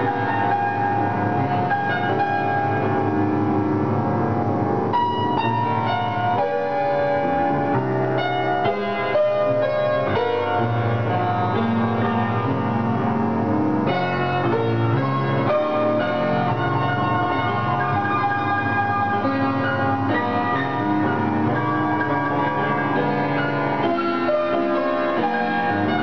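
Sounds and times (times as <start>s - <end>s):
piano playing chords and melody: 0.0s - 26.0s.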